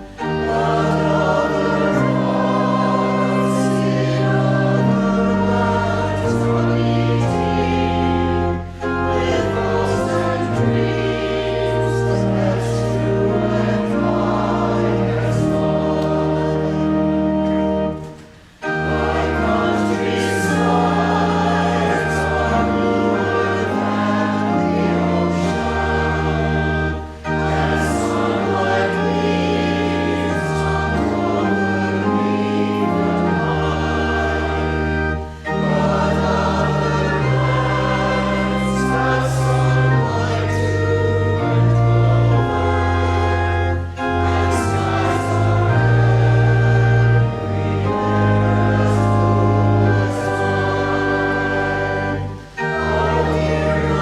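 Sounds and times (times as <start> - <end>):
choir singing a hymn: 0.0 - 54.0
organ accompaniment: 0.0 - 54.0.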